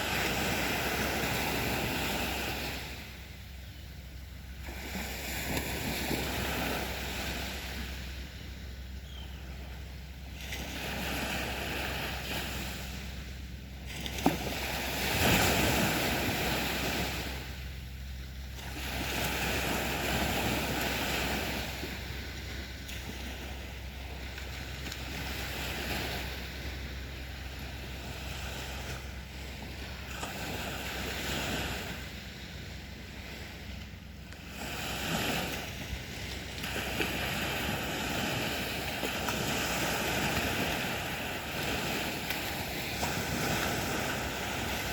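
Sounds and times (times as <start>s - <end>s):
sea waves breaking on beach: 0.0s - 44.9s.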